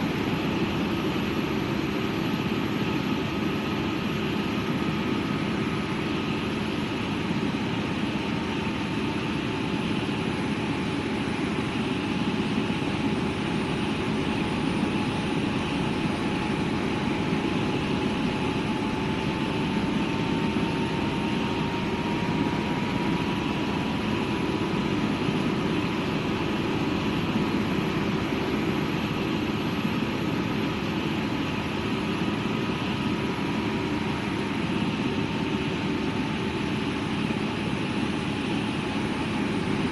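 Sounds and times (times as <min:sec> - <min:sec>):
faint whine: 0:00.0 - 0:39.9
helicopter turbine and rotor noise: 0:00.0 - 0:39.9.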